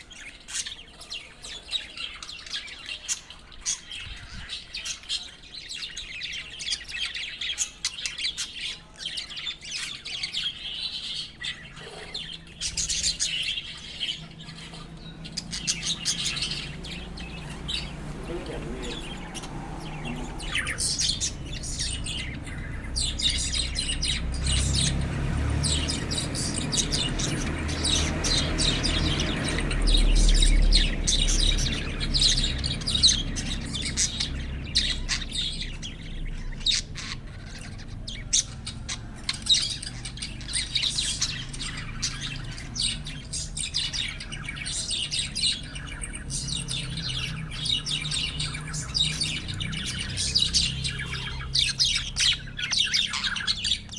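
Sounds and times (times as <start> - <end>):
budgerigars chirping and warbling: 0.0 - 53.9.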